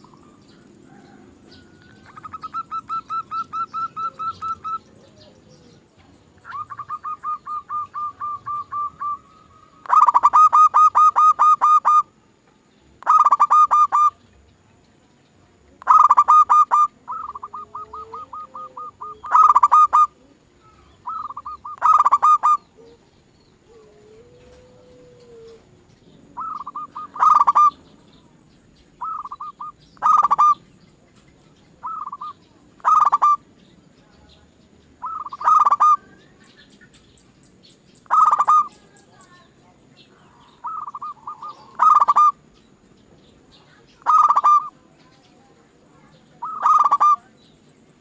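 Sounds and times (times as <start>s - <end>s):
doves calling in rolling notes: 0.0s - 48.0s.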